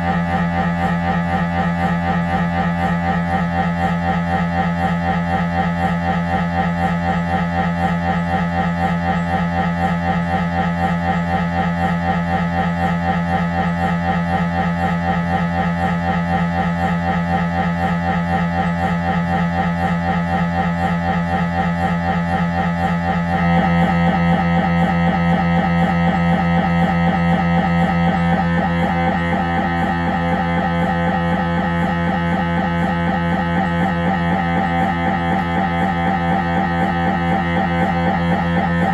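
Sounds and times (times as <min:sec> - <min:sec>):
mri scanner buzzing in pulses: 0:00.0 - 0:38.9.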